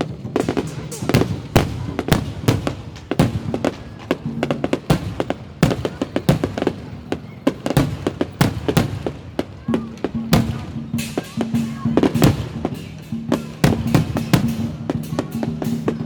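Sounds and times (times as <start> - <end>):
fireworks bursting with sharp bangs: 0.0 - 16.0.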